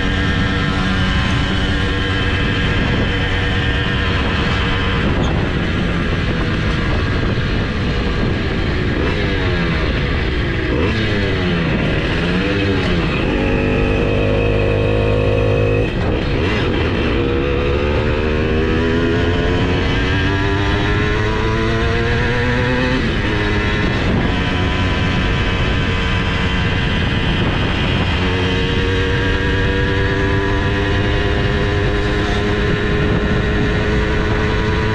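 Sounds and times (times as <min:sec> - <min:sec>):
two-stroke engine running hard: 0:00.0 - 0:34.9.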